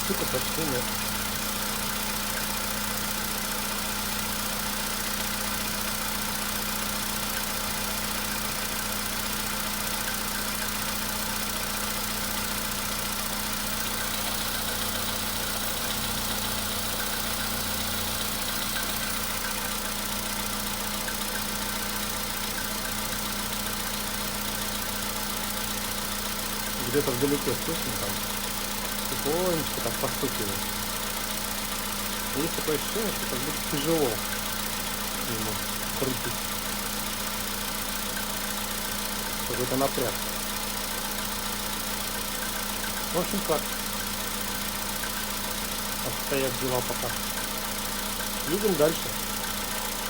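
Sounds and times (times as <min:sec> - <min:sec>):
car engine idling: 0:00.0 - 0:50.0
faint engine tapping: 0:00.0 - 0:50.0.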